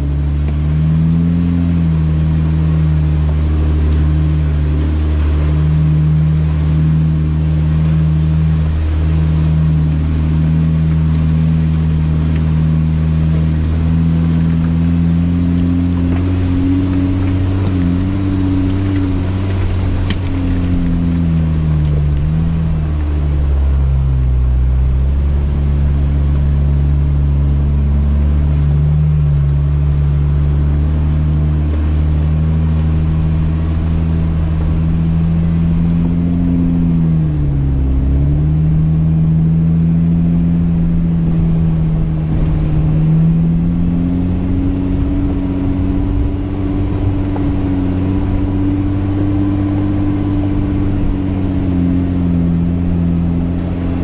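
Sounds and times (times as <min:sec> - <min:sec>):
engine droning at low speed: 0:00.0 - 0:54.0.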